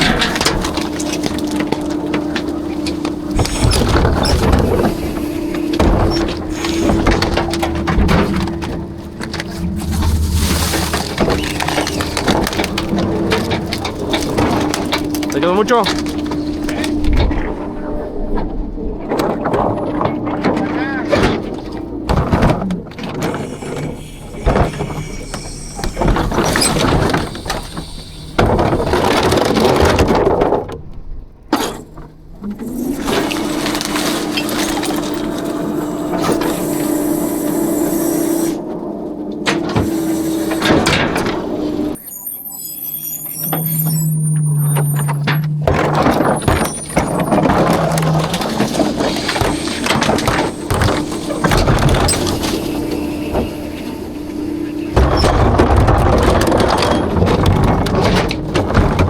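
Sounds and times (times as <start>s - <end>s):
garbage truck squeal: 0.0s - 30.3s, 31.3s - 59.0s
garbage truck knocks: 0.0s - 38.4s, 39.2s - 42.0s, 43.5s - 59.0s
garbage truck rumbling and crunching: 0.0s - 59.0s.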